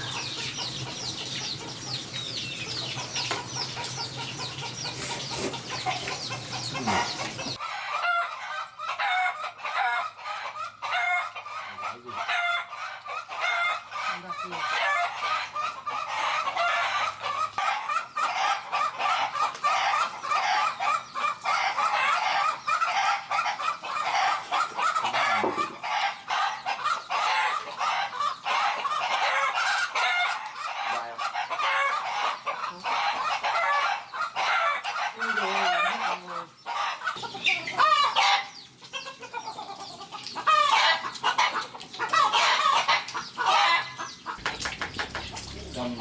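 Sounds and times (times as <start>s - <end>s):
poultry clucking: 0.0s - 46.0s.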